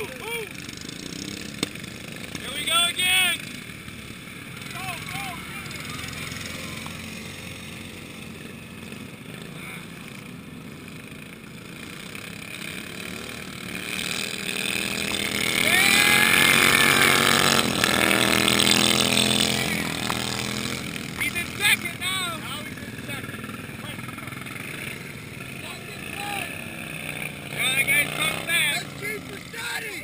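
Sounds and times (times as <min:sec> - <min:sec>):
lawn tractor engines racing: 0:00.0 - 0:30.0.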